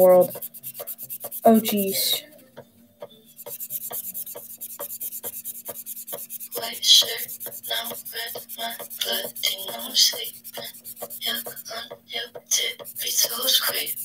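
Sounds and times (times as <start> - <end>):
marker scratching on paper: 0.0 - 2.2, 3.3 - 14.0.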